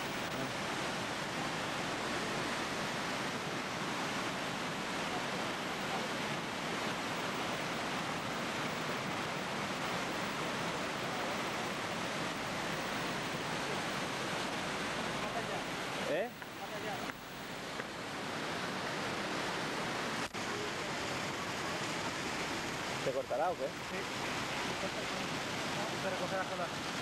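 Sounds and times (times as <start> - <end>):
waterfall rushing over rocks: 0.0 - 27.0.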